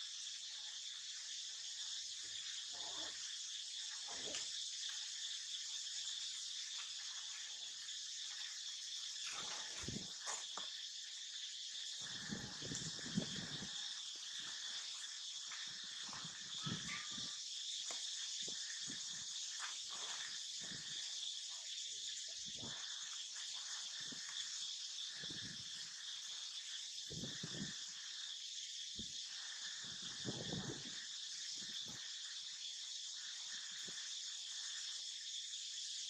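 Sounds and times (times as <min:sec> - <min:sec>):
insect chorus buzzing: 0:00.0 - 0:36.0.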